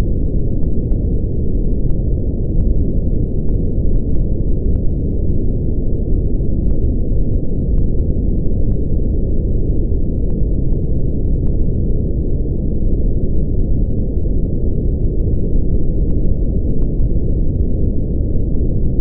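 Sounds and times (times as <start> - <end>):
deep rumbling brown noise: 0.0 - 19.0.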